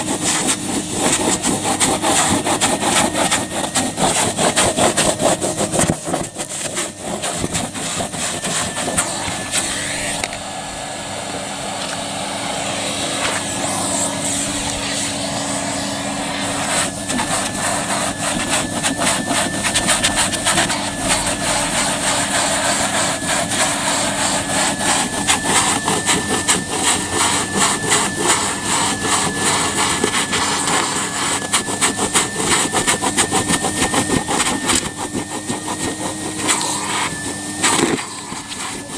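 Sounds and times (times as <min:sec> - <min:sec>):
vacuum cleaner motor whine: 0:00.0 - 0:38.9
vacuum nozzle rasping on carpet: 0:00.0 - 0:38.9.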